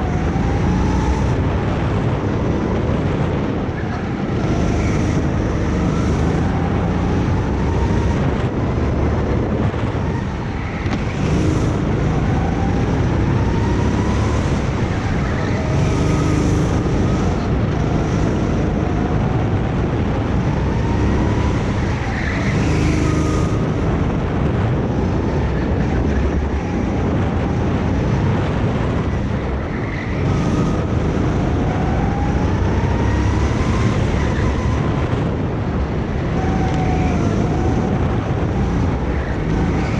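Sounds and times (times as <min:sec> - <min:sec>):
kart engine accelerating: 0:00.0 - 0:39.9.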